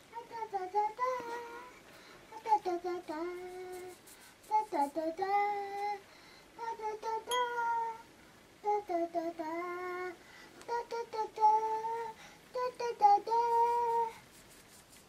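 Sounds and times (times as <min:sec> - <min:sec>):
toddler girl singing: 0:00.0 - 0:14.2.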